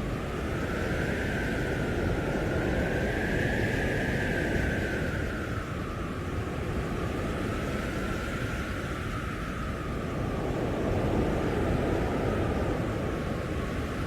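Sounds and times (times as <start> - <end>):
blizzard wind howling: 0.0 - 14.0.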